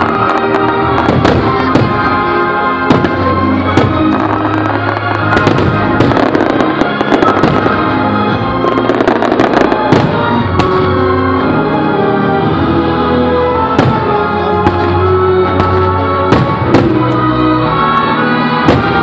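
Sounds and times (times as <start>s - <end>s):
fireworks bursting with sharp bangs: 0.0s - 11.8s, 13.6s - 19.0s
fireworks show music: 0.0s - 19.0s.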